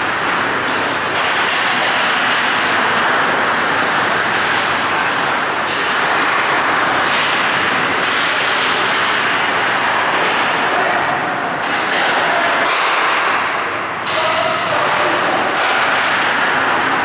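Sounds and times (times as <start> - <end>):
ice rink crowd din: 0.0 - 17.0.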